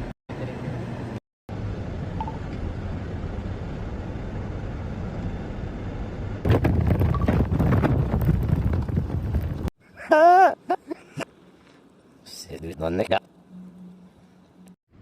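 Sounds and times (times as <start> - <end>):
vehicle and road rumble: 0.0 - 9.7, 11.0 - 15.0.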